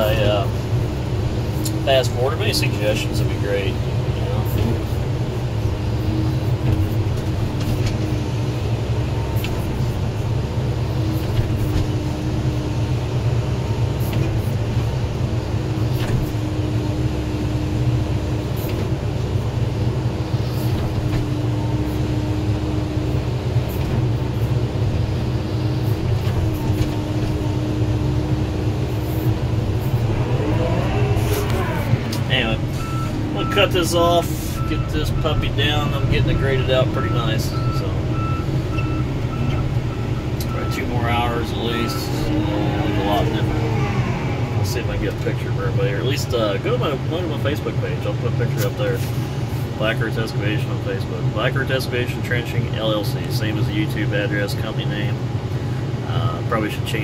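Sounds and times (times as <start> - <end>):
excavator diesel engine drone: 0.0 - 57.0.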